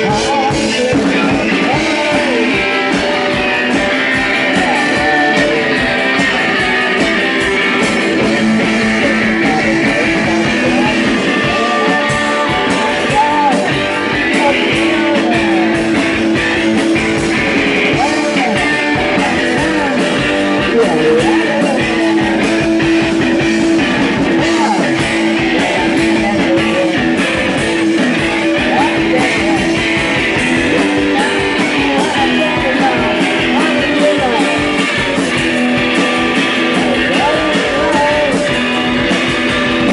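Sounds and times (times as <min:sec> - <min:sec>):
electric guitars: 0:00.0 - 0:39.9
live rock band playing: 0:00.0 - 0:39.9.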